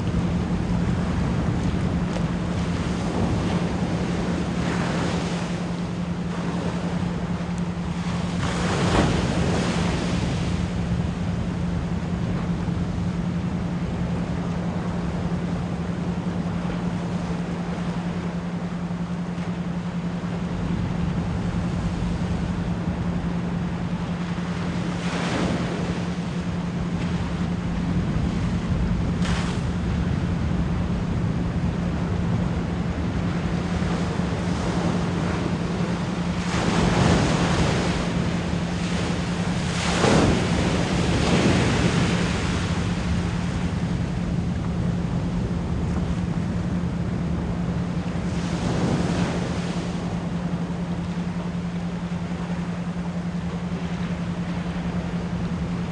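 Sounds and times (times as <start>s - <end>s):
ocean waves breaking: 0.0s - 55.9s
steady pure tone: 0.0s - 55.9s.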